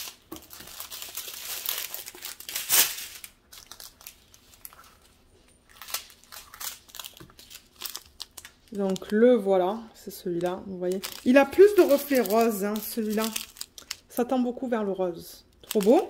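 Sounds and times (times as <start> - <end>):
plastic bags crinkling: 0.0 - 9.3, 10.3 - 14.2, 15.5 - 16.0.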